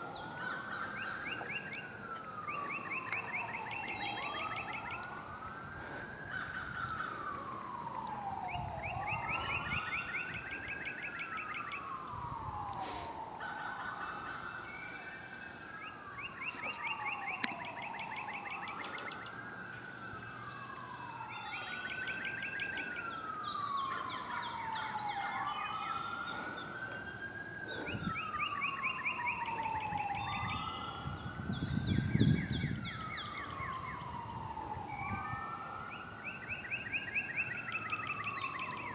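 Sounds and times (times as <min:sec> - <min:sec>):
emergency vehicle siren wailing: 0:00.0 - 0:38.9.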